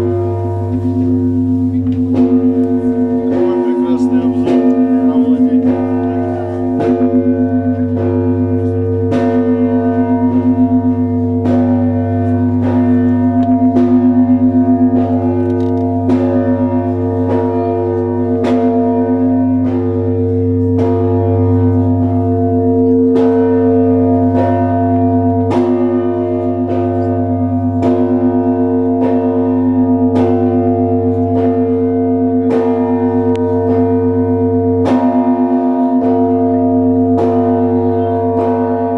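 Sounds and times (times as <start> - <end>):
large bell hum: 0.0 - 38.9
small church bells ringing: 0.0 - 38.9.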